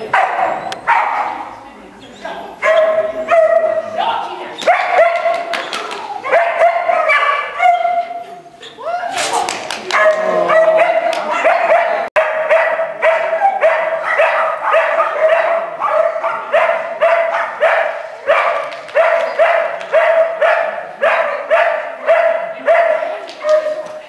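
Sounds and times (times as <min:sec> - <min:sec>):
dog barking loudly: 0:00.0 - 0:01.5, 0:02.5 - 0:08.2, 0:09.4 - 0:24.0.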